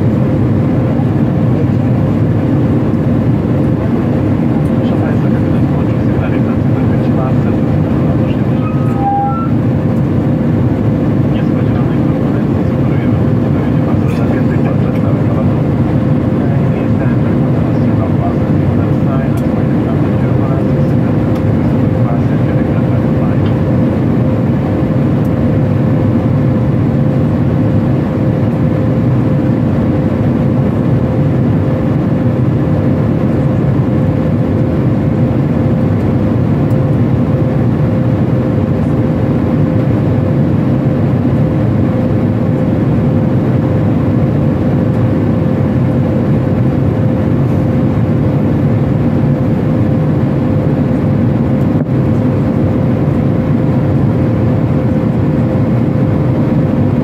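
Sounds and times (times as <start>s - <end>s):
airliner cabin engine and airflow rush: 0.0s - 57.0s
constant hum: 0.0s - 57.0s.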